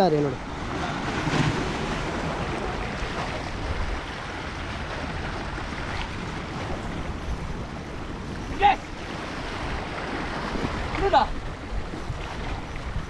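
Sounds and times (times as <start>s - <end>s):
sea waves washing against rocks: 0.0s - 13.0s
wind buffeting microphone: 0.0s - 13.0s.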